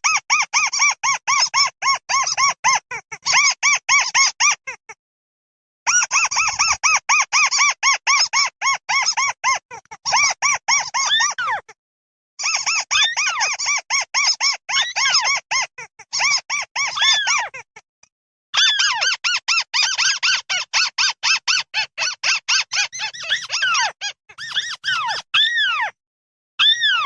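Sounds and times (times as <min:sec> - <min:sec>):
flock of birds calling squeakily: 0:00.0 - 0:04.8, 0:05.9 - 0:11.7, 0:12.4 - 0:17.8, 0:18.6 - 0:26.0, 0:26.6 - 0:27.0.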